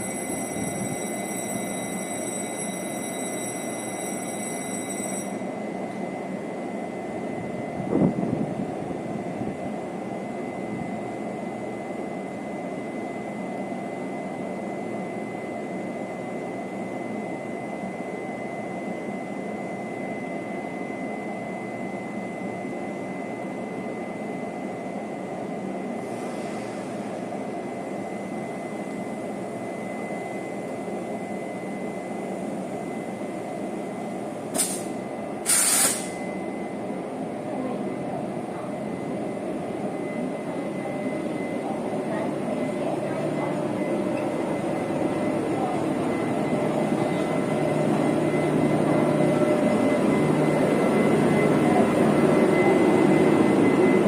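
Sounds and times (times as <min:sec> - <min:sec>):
passenger train rumbling: 0:00.0 - 0:04.5, 0:05.2 - 0:20.6, 0:24.2 - 0:54.0.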